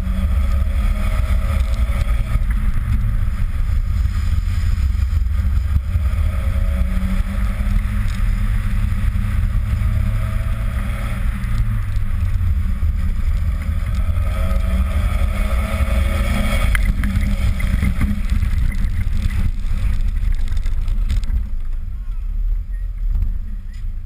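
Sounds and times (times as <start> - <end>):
car engine running: 0.0 - 24.0
wind and road noise: 0.0 - 24.0.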